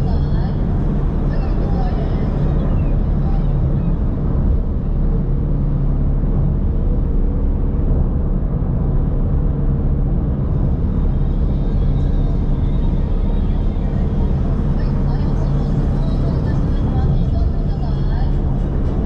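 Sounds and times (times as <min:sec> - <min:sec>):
car road and engine rumble: 0:00.0 - 0:19.0
low hum: 0:00.0 - 0:19.0.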